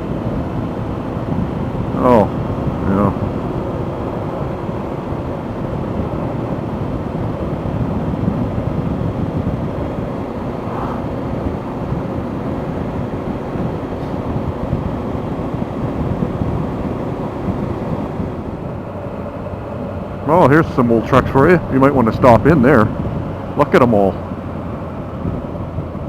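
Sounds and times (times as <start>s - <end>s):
motorcycle engine cruising: 0.0s - 26.0s
wind rushing over microphone: 0.0s - 26.0s.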